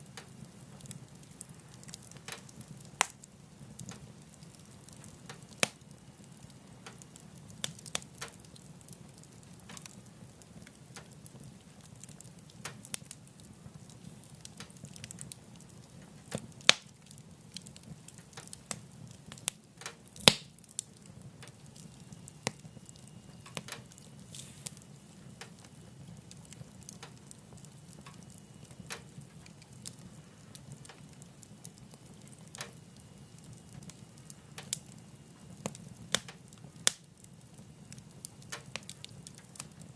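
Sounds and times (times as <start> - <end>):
loud fire pops: 0.0 - 39.9
wood fire crackling in a stove: 0.0 - 39.9.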